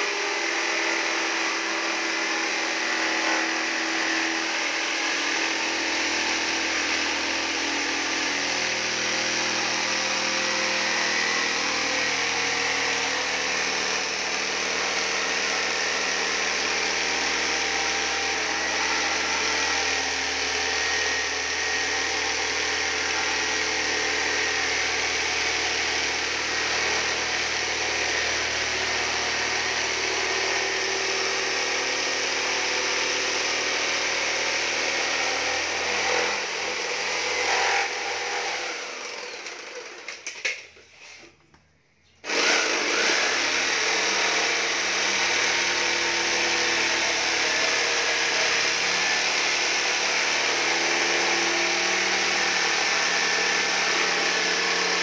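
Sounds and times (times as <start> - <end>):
electric jigsaw cutting wood: 0.0 - 40.6, 42.2 - 55.0.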